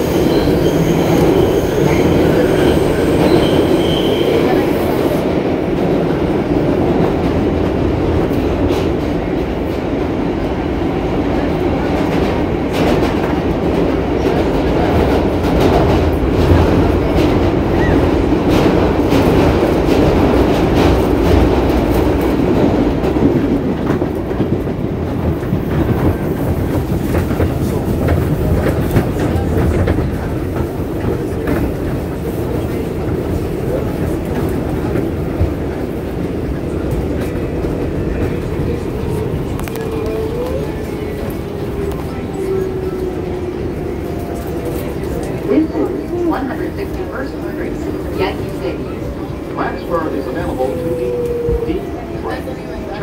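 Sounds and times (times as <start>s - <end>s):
subway train rumble: 0.0s - 53.0s.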